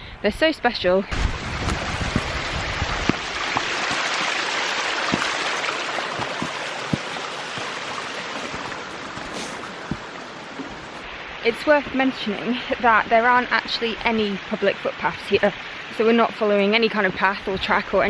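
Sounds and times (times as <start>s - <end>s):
rushing water: 1.1s - 18.0s.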